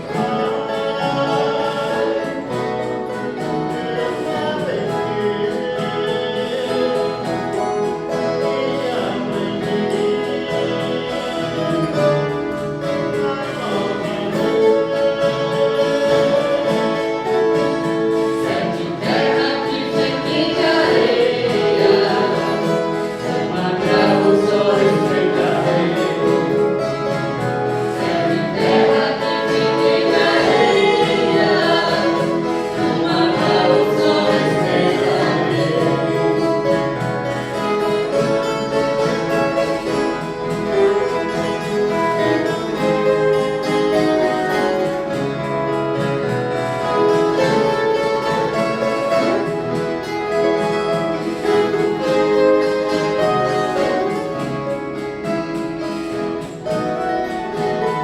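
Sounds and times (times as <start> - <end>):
people singing: 0.0 - 58.0
plucked guitar strings: 0.0 - 58.0.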